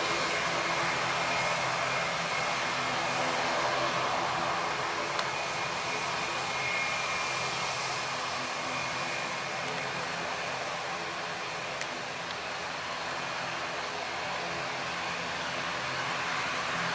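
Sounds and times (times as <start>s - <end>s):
high engine whine: 0.0s - 16.9s
jet engines running: 0.0s - 16.9s.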